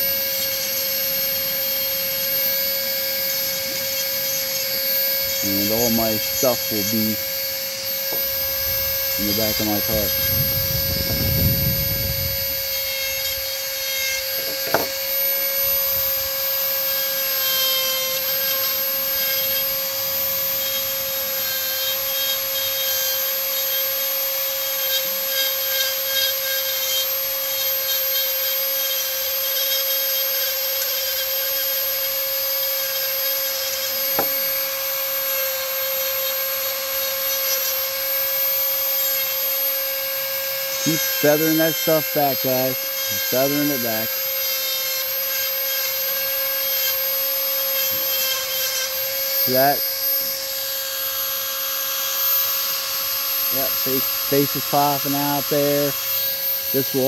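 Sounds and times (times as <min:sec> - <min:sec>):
rotary tool whining: 0:00.0 - 0:57.0
bit rasping on wood: 0:00.2 - 0:57.0.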